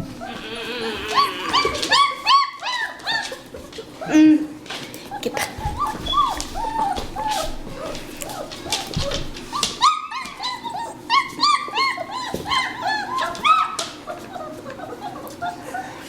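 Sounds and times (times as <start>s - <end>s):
puppies whimpering and yipping: 0.0s - 4.4s, 5.1s - 16.0s.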